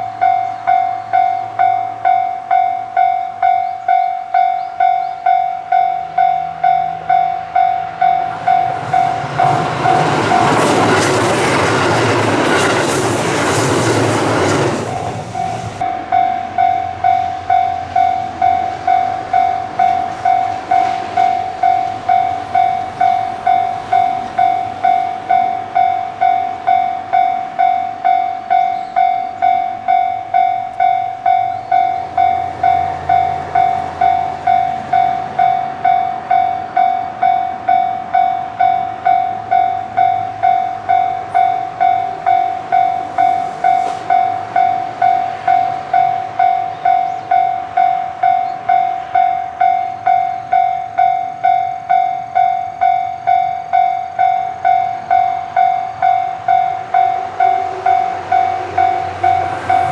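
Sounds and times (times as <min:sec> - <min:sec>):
level crossing bell ringing: 0:00.0 - 0:10.6, 0:14.9 - 0:59.9
diesel railcar passing: 0:00.0 - 0:59.9.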